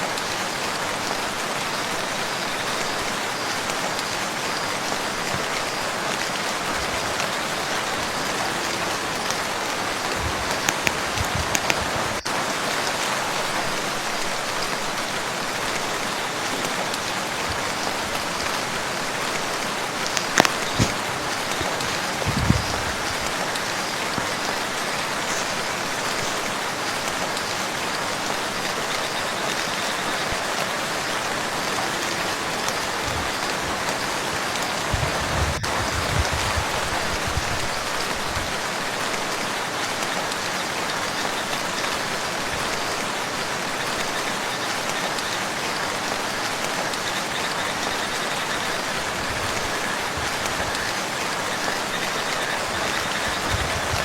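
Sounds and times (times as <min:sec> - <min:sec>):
rain falling on a lake: 0:00.0 - 0:54.0.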